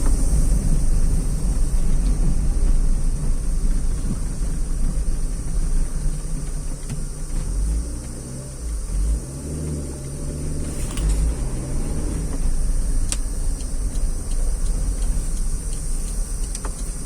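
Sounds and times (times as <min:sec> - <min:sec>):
vehicle road rumble: 0:00.0 - 0:17.0.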